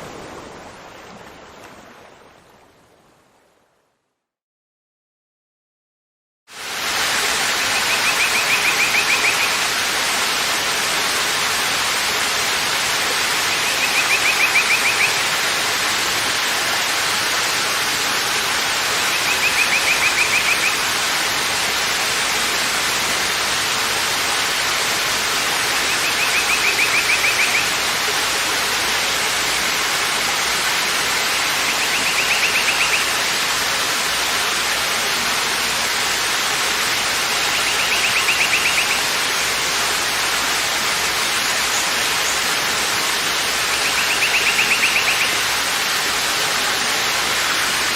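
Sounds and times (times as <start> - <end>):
waterfall roaring: 6.6 - 47.9.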